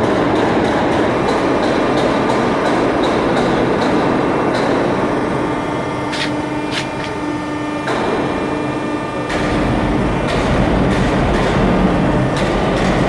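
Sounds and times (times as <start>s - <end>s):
machinery humming and rumbling: 0.0s - 13.0s.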